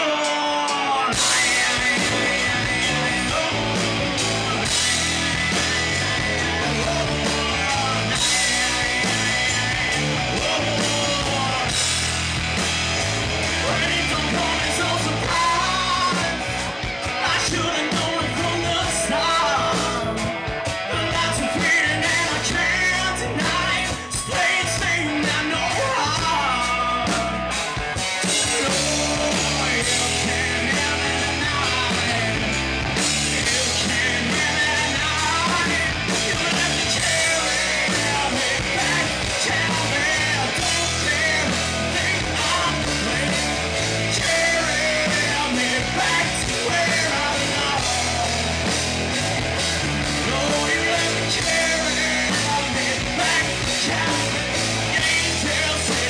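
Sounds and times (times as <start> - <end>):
bass: 0.0 - 56.0
drums: 0.0 - 56.0
electric guitars: 0.0 - 56.0
man singing lead: 0.0 - 56.0.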